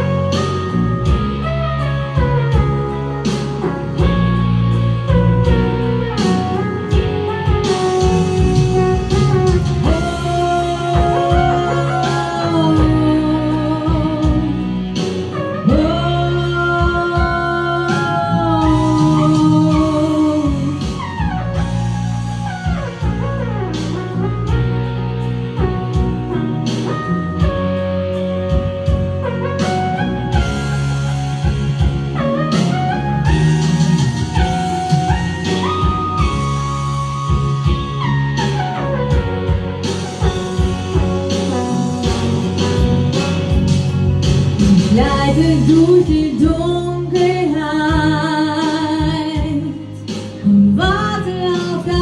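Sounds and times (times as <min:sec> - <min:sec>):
bass: 0:00.0 - 0:52.0
guitar melody: 0:00.0 - 0:52.0
slow pop ballad: 0:00.0 - 0:52.0
steady drum beat: 0:02.1 - 0:27.8, 0:28.5 - 0:48.2.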